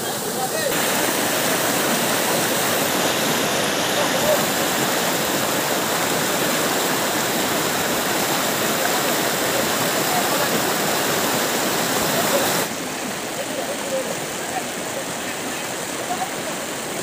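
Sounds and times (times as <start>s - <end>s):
river rushing over stones: 0.0s - 17.0s.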